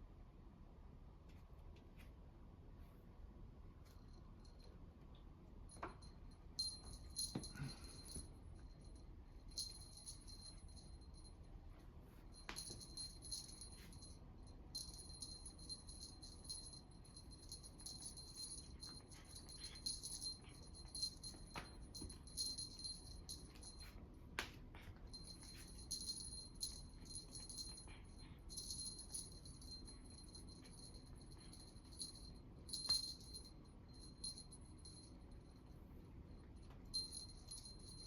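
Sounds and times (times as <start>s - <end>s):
small jingle bell jingling: 5.7s - 11.5s, 12.3s - 24.0s, 24.8s - 38.0s.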